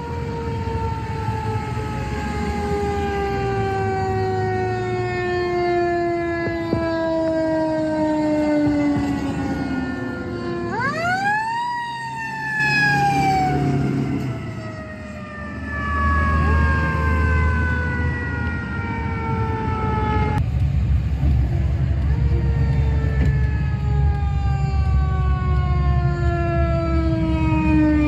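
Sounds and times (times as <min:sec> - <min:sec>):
fire truck siren wailing: 0:00.0 - 0:28.0
truck engine rumbling: 0:00.0 - 0:28.0.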